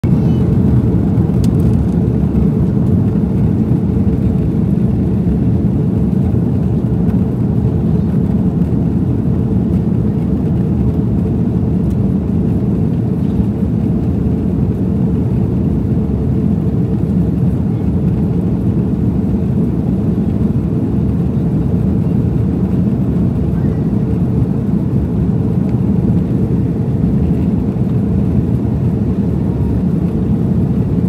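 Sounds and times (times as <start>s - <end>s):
jet engine low rumble: 0.0s - 31.0s.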